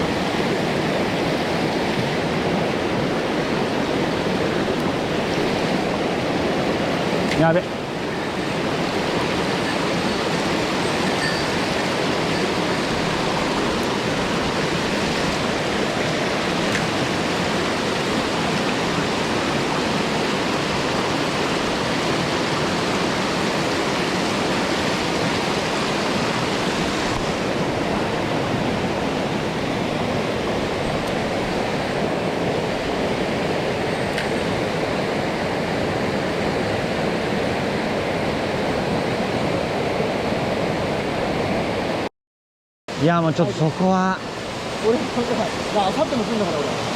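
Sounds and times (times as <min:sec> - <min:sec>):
stream rushing over rocks: 0:00.0 - 0:42.0, 0:42.9 - 0:46.9.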